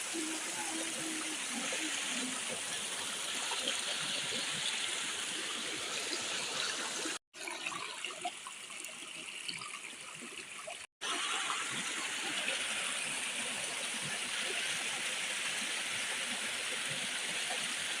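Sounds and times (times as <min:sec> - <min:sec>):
stream flowing with splashes: 0:00.0 - 0:18.0.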